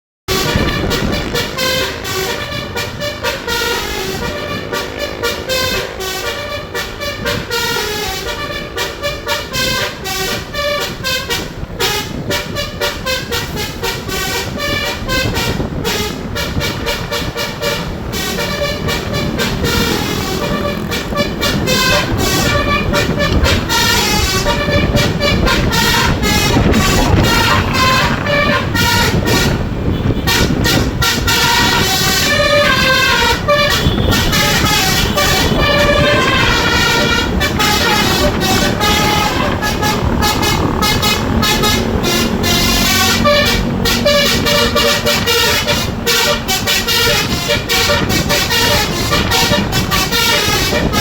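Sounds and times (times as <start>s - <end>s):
bus engine rumble: 0.3s - 51.0s
multi-tone bus horn: 0.3s - 51.0s.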